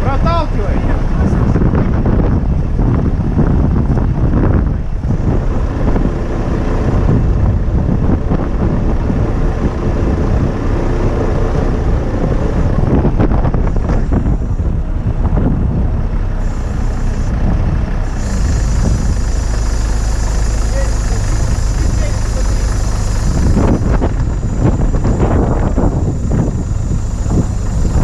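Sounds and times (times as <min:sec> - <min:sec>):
truck engine running: 0:00.0 - 0:28.0
wind buffeting microphone: 0:00.0 - 0:28.0.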